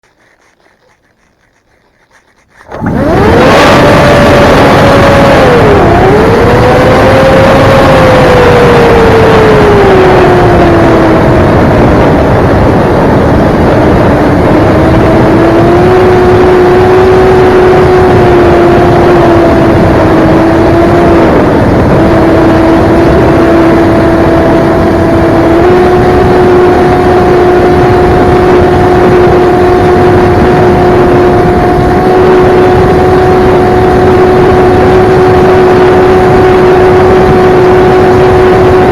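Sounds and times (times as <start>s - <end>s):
motor spinning propeller whine: 0.0s - 38.9s.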